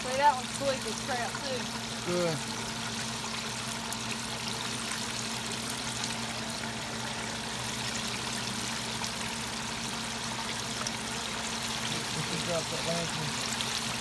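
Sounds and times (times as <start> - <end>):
hot oil bubbling and sizzling: 0.0 - 14.0.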